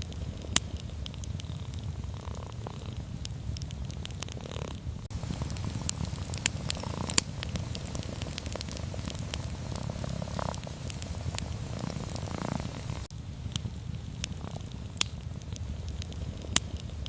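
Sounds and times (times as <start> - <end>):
wood fire crackling and popping: 0.0 - 17.0
cat purring: 0.1 - 17.0.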